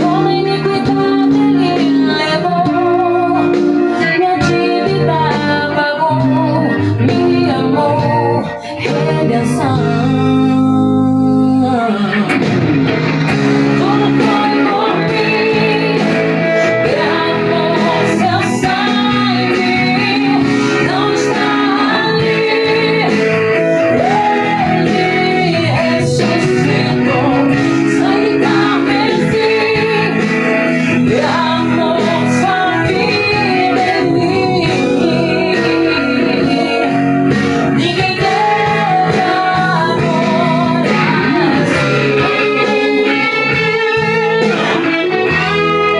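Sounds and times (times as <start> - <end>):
electric guitar playing: 0.0 - 45.9
gospel song with band: 0.0 - 45.9.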